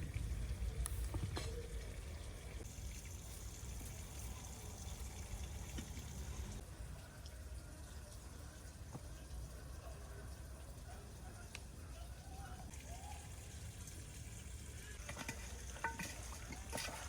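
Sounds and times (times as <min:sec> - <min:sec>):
water pouring: 0:00.0 - 0:10.9, 0:12.6 - 0:17.0.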